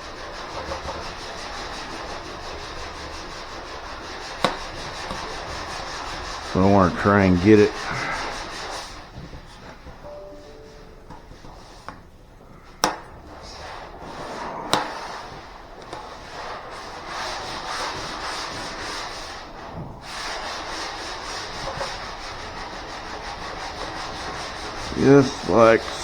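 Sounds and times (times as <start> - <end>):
sandpaper rubbing on car panel: 0.0 - 10.0, 13.2 - 26.0.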